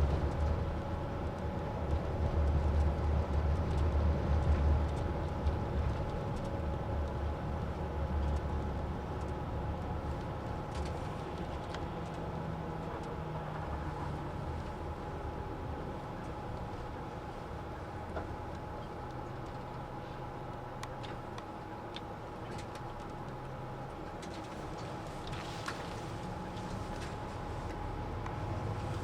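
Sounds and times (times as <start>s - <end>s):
bus engine and road drone: 0.0s - 29.0s.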